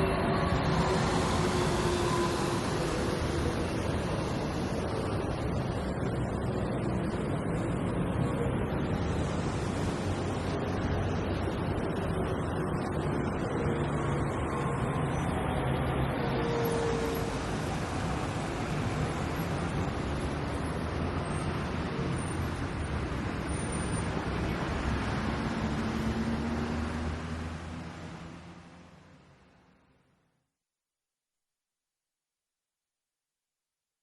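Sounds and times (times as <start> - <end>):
busy road traffic: 0.0 - 30.2.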